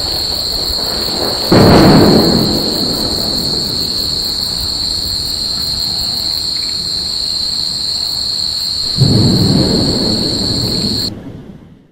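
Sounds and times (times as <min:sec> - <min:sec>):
night insects trilling: 0:00.0 - 0:11.1
thunder rolling: 0:00.0 - 0:11.9.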